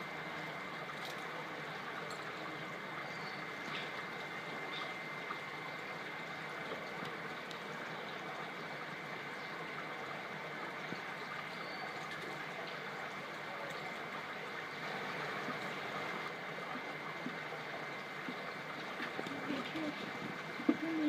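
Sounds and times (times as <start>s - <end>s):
rushing trickling water noise: 0.0s - 21.0s.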